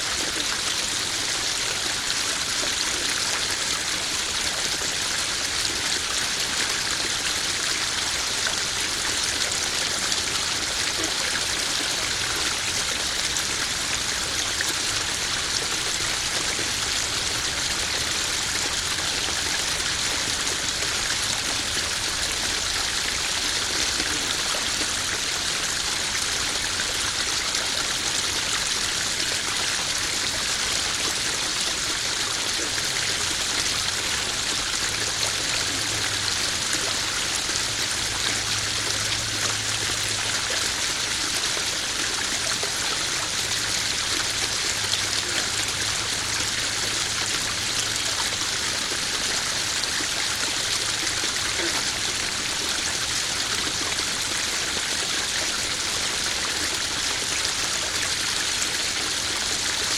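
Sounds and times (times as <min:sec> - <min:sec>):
waterfall splashing into pond: 0:00.0 - 0:59.9.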